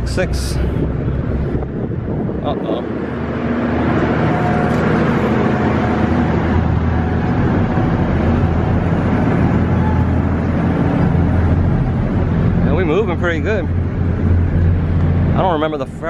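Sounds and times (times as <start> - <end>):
ferry engines humming: 0.0 - 16.0
rushing wind: 0.0 - 16.0.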